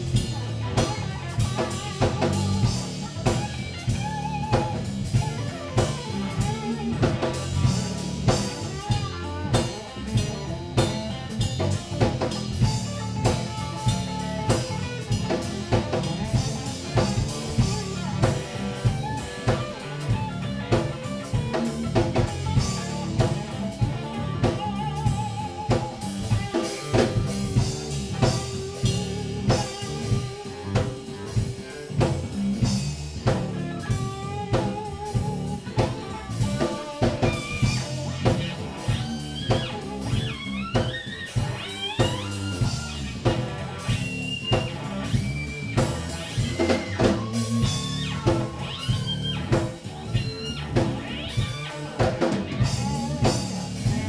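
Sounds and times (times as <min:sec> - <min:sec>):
drum kit beat: 0:00.0 - 0:54.0
electric guitars: 0:00.0 - 0:54.0
funk rock band playing: 0:00.0 - 0:54.0.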